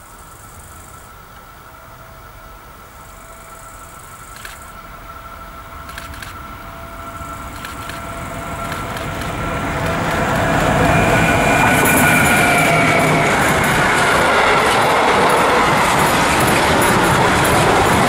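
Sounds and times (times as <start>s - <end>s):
electric locomotive whine: 0.0s - 18.0s
train wheels rumbling on rail: 0.0s - 18.0s.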